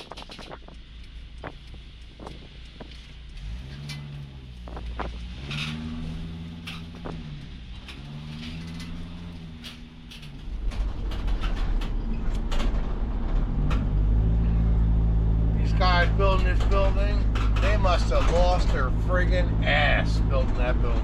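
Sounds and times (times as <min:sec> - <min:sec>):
clicks and rattles: 0:00.0 - 0:14.0, 0:16.0 - 0:19.1
diesel engine and road noise: 0:00.0 - 0:21.0.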